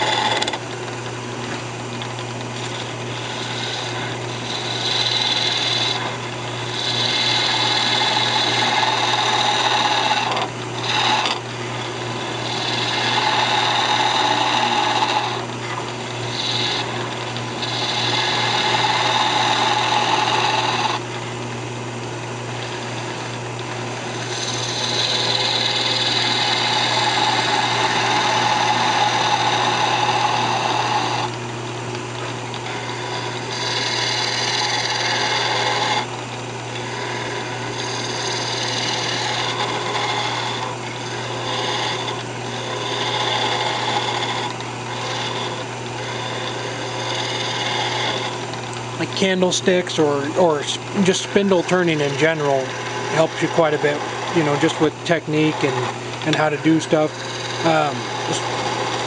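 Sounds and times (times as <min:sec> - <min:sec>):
chisel cutting spinning wood: 0:00.0 - 0:59.0
wood lathe motor humming: 0:00.0 - 0:59.0.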